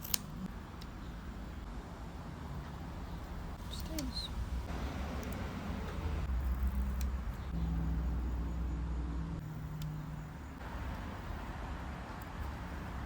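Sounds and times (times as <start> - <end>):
vehicle engine hum: 0.4 - 13.0.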